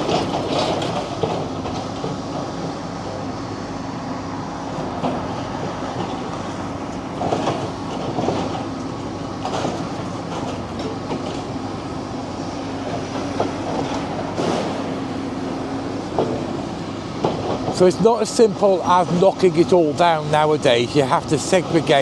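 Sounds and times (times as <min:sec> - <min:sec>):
excavator engine hum: 0:00.0 - 0:22.0.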